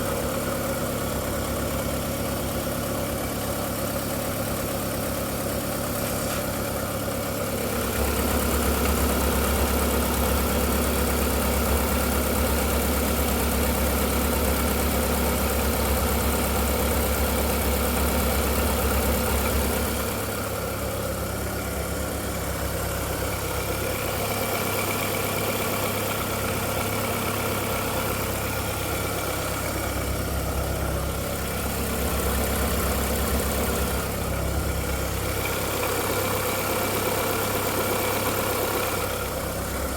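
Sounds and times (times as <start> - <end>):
car engine idling: 0.0 - 39.9
engine clacking: 0.0 - 39.9.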